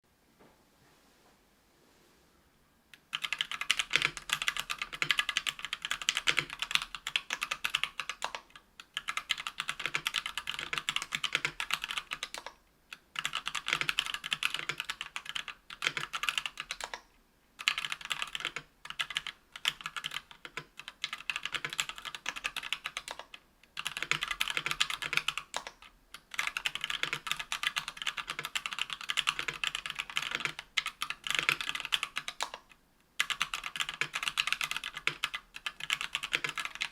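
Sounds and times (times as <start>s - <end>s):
keyboard typing: 3.0s - 36.9s.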